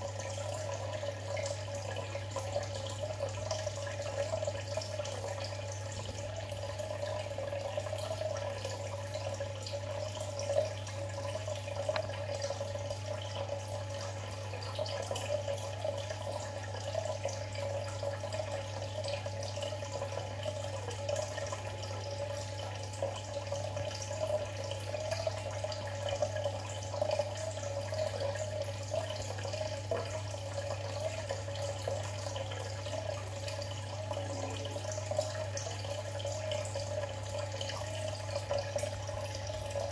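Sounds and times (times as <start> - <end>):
aquarium water trickling and bubbling: 0.0 - 39.9
small drips and ticks: 0.0 - 39.9.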